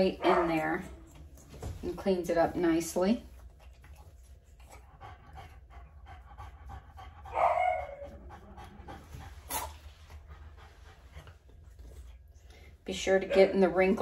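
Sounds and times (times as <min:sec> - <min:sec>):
dog panting: 0:02.3 - 0:14.0.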